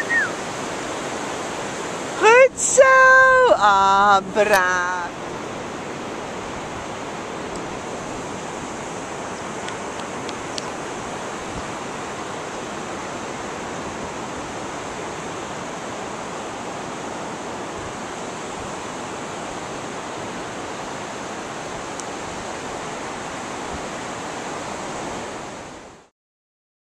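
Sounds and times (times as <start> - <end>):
sea surf rushing: 0.0 - 26.1
wind on the beach: 0.0 - 26.1.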